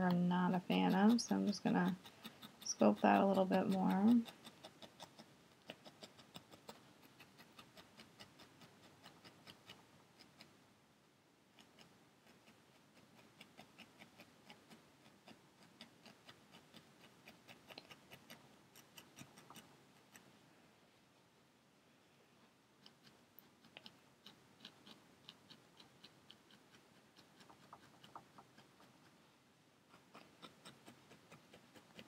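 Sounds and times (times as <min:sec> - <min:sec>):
felting needle ticking: 0:00.0 - 0:10.6, 0:11.5 - 0:20.3, 0:22.8 - 0:29.2, 0:29.9 - 0:32.0.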